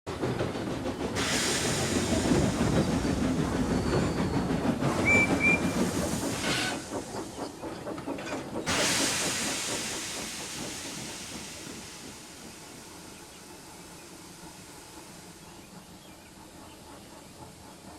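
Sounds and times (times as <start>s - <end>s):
steam locomotive engine rumble: 0.1s - 17.9s
steam hissing: 0.2s - 17.9s.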